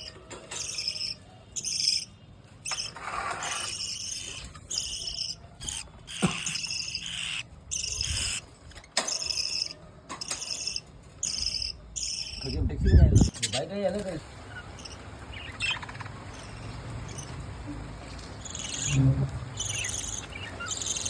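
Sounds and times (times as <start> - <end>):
budgerigars chirping: 0.0 - 13.7, 14.4 - 21.0.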